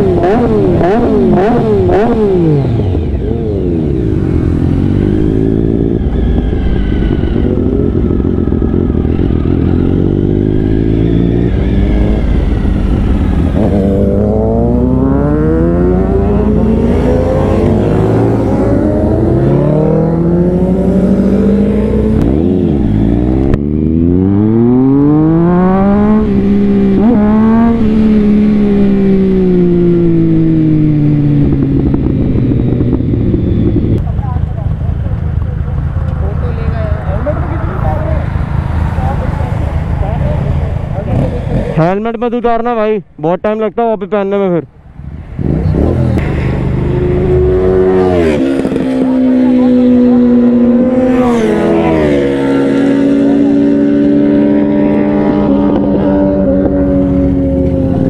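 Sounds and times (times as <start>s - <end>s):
wind rushing over microphone: 0.0s - 34.0s, 44.6s - 58.0s
motorcycle engines revving: 0.0s - 58.0s.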